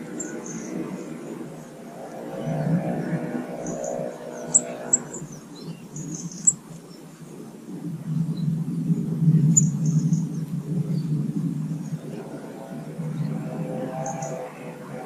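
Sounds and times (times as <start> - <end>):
passing traffic rumble: 0.0 - 15.0
small birds chirping: 0.0 - 15.0.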